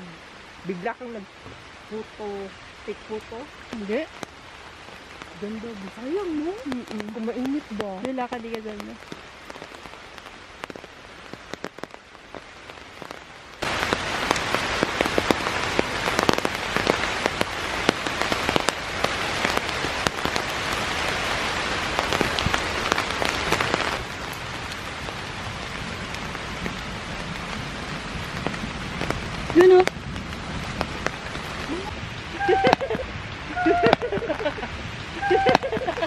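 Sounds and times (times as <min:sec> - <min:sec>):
rain falling: 0:00.0 - 0:36.0.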